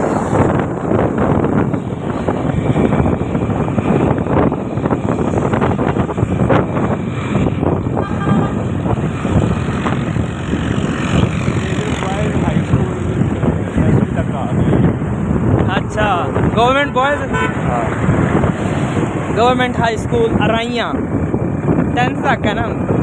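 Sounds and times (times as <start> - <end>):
motorcycle riding noise: 0.0 - 23.0
wind buffeting microphone: 0.0 - 23.0.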